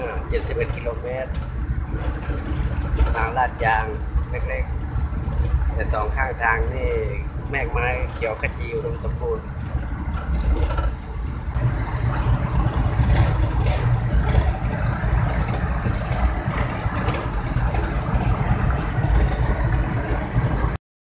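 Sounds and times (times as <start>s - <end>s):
engine and tyre rumble: 0.0s - 20.8s
rushing wind: 0.0s - 20.8s.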